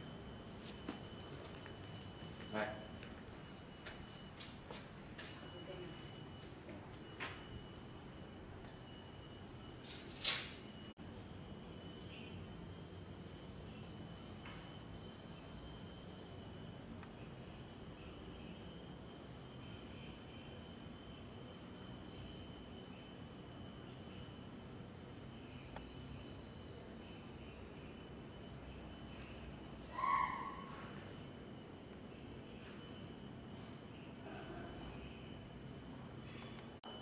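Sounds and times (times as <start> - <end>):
insects buzzing calls: 0.0 - 37.0
insects whining: 0.0 - 37.0.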